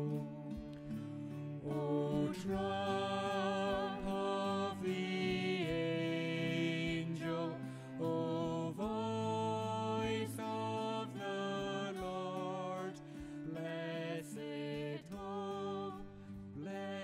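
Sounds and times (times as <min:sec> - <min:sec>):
slow gentle music: 0:00.0 - 0:17.0.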